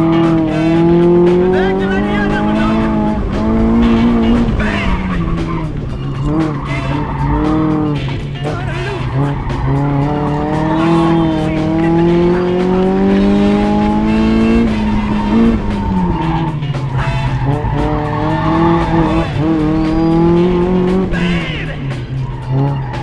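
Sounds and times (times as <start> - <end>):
car engine revving: 0.0 - 23.0
music: 0.0 - 23.0.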